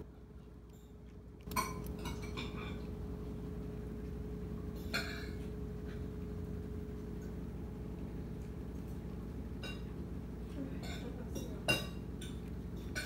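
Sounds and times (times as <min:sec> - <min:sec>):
cat crunching dry kibble: 0:00.0 - 0:10.2, 0:11.8 - 0:13.0.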